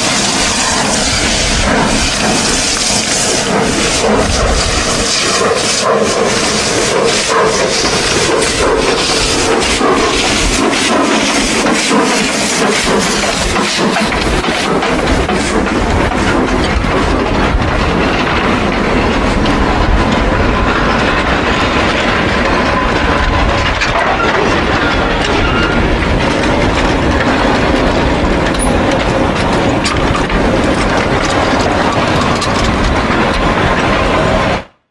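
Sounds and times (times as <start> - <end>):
train rolling on rails: 0.0 - 34.9.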